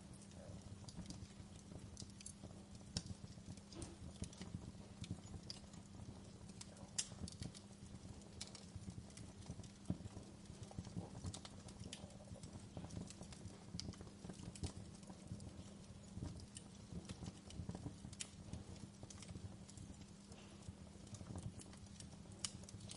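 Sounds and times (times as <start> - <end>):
faint steady hum: 0.0 - 22.9
wood fire crackling: 0.0 - 22.9.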